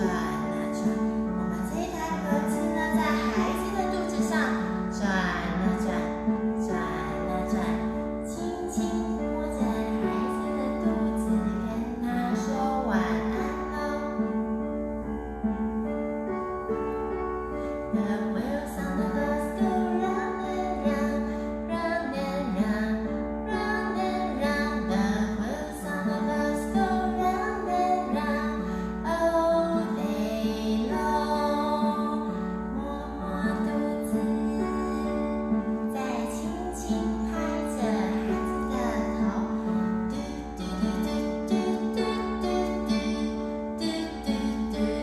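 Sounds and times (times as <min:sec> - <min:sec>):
woman singing softly: 0:00.0 - 0:45.0.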